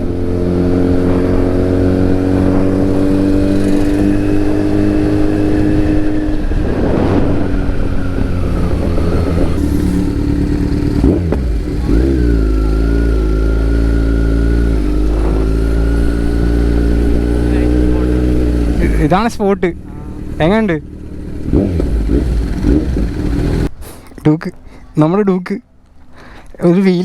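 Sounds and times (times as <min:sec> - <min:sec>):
motorcycle engine running: 0:00.0 - 0:23.7.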